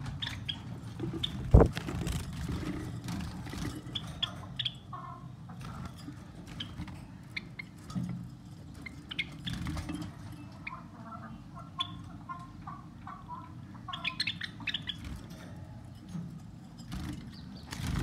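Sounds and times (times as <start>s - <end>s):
birds chirping: 0.0s - 8.0s, 8.7s - 15.3s, 16.8s - 18.0s.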